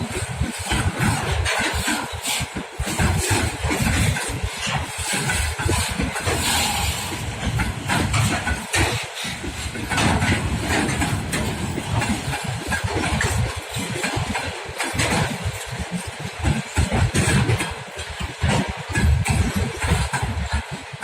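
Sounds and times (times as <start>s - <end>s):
freight train wheels rumbling: 0.0s - 21.0s
train wheels knocking: 0.0s - 21.0s.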